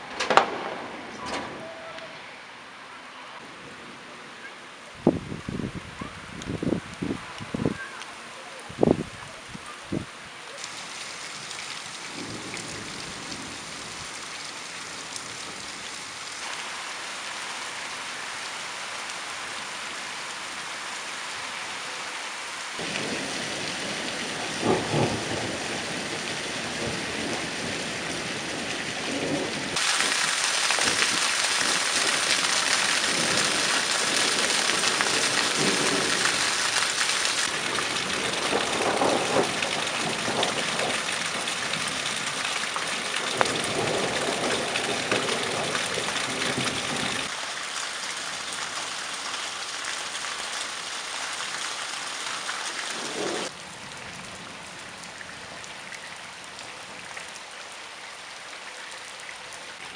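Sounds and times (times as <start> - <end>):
rain falling on roofs: 0.0 - 59.9.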